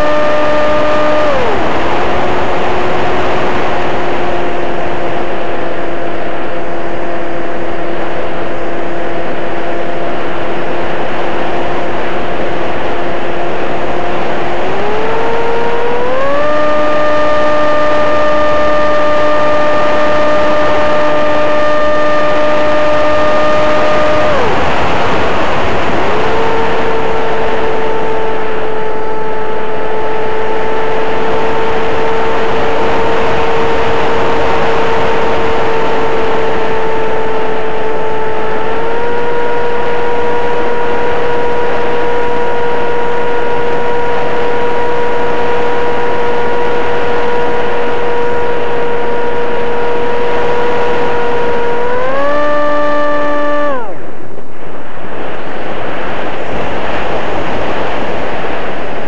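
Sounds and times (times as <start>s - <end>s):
electric motor and propeller whine: 0.0s - 59.0s
heavy wind rush: 0.0s - 59.0s.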